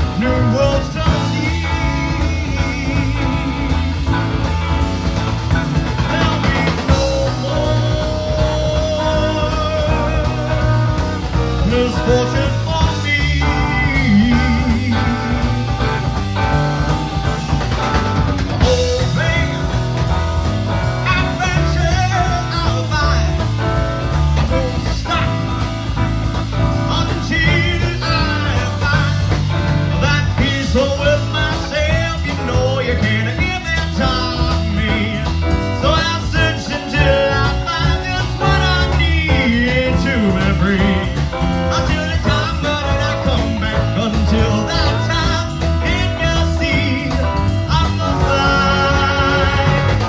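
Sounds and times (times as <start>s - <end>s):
bass guitar: 0.0s - 50.0s
drums: 0.0s - 50.0s
electric guitars: 0.0s - 50.0s
wavering lead melody: 0.0s - 50.0s.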